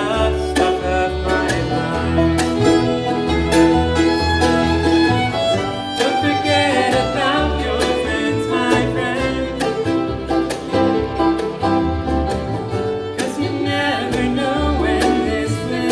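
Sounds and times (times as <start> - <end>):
acoustic guitar: 0.0 - 15.9
banjo: 0.0 - 15.9
fiddle with sliding notes: 0.0 - 15.9
steady bass line: 0.0 - 15.9.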